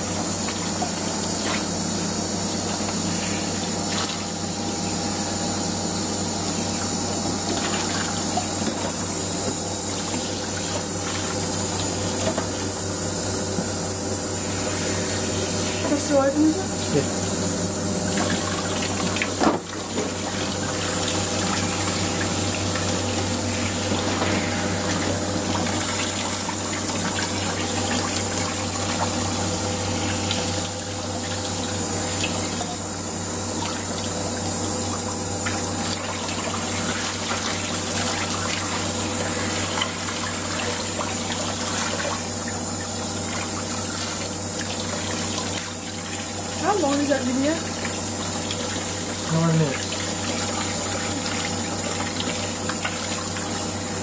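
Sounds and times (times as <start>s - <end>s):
shower water running on fur: 0.0s - 54.0s.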